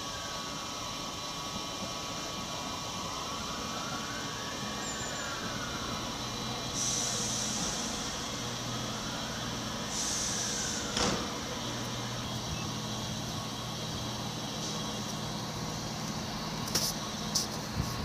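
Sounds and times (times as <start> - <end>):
electric train hum and hiss: 0.0 - 18.0.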